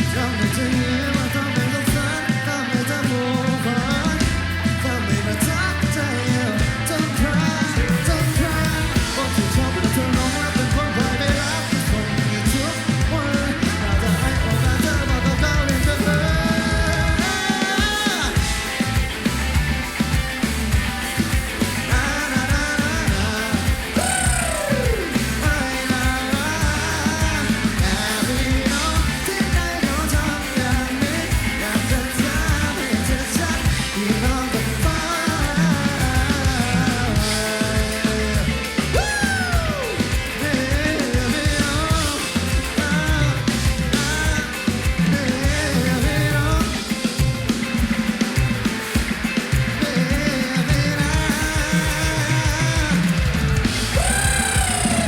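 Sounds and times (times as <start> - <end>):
person singing: 0.0 - 19.4, 21.0 - 55.0
bass guitar: 0.0 - 55.0
drums keeping steady beat: 0.0 - 55.0
electric guitars: 0.0 - 55.0
live rock band playing: 0.0 - 55.0.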